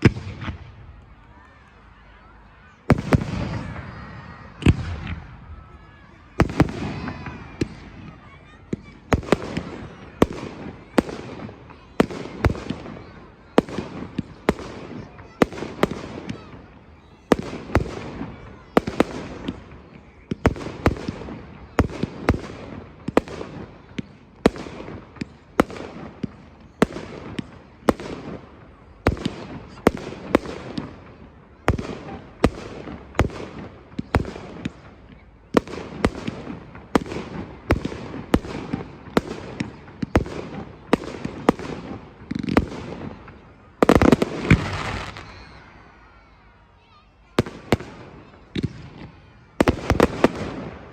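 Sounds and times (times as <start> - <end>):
fireworks bursting: 0.0 - 1.2, 2.6 - 46.4, 47.3 - 50.9
fireworks crackle: 2.9 - 46.4.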